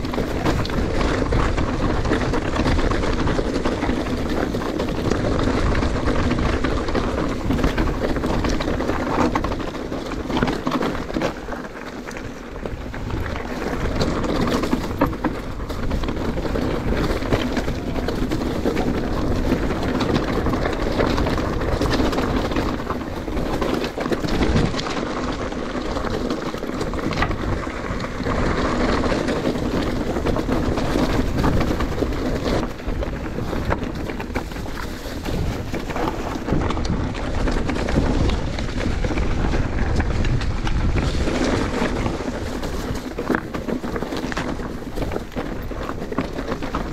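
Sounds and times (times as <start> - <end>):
bike tyre and wind rush: 0.0 - 46.9
small rattles and knocks: 0.0 - 46.9.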